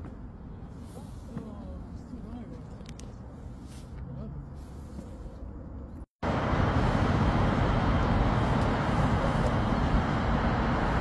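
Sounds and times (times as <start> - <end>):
city road traffic: 0.0 - 11.0.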